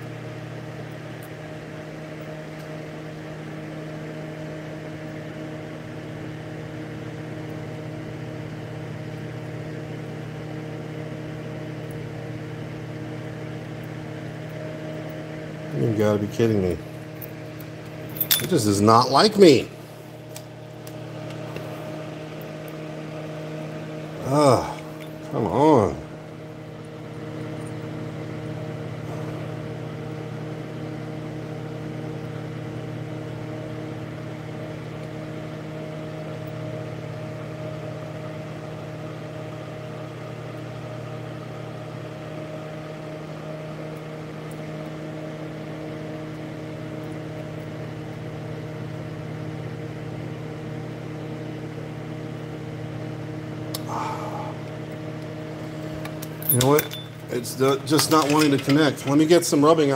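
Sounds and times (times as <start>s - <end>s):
faint fan whir: 0.0s - 59.9s
steady electrical hum: 0.0s - 59.9s.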